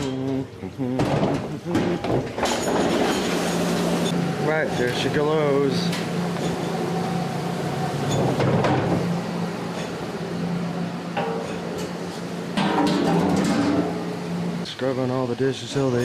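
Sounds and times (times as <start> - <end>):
dishwasher motor hum: 0.0 - 16.0.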